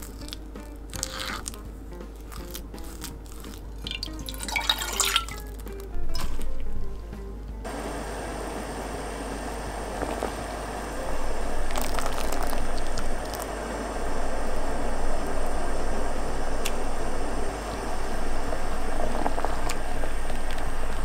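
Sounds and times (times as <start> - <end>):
water boiling in pot: 0.0 - 1.7, 2.3 - 7.0, 7.6 - 21.0.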